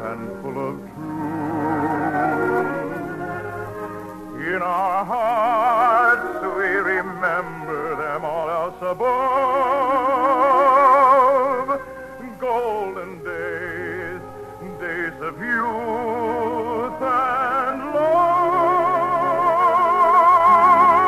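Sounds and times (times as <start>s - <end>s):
orchestral accompaniment: 0.0s - 21.0s
person singing operatically: 0.0s - 21.0s.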